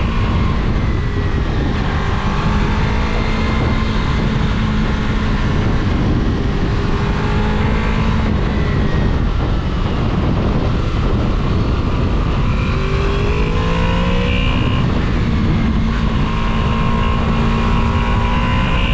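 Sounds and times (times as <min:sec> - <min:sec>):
motorcycle engine: 0:00.0 - 0:18.9
wind rush on microphone: 0:00.0 - 0:18.9.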